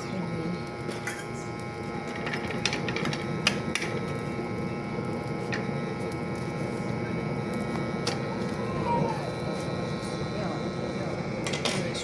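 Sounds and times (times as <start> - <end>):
cooking fire rushing: 0.0 - 12.0
fire crackles: 0.0 - 12.0.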